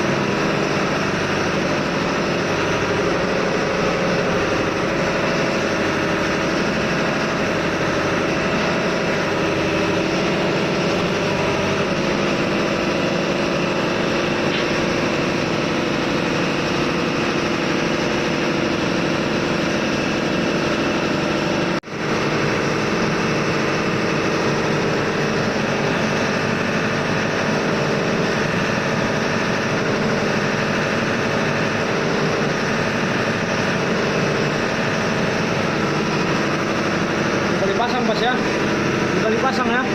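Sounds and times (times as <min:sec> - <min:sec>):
engine drone: 0:00.0 - 0:39.9
machinery hums: 0:00.0 - 0:39.9.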